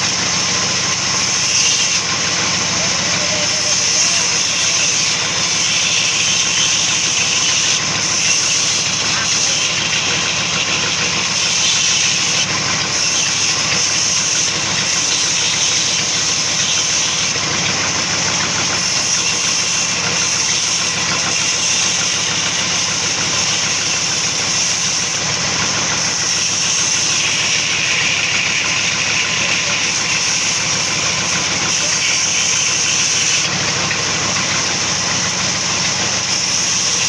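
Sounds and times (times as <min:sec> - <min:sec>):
sawmill machinery with high hiss: 0:00.0 - 0:37.0.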